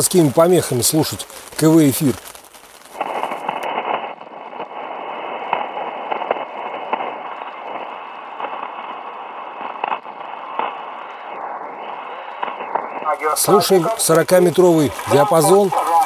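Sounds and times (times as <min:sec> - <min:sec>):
sharp static crackles: 0:00.0 - 0:16.0
shortwave static hiss: 0:00.0 - 0:16.0.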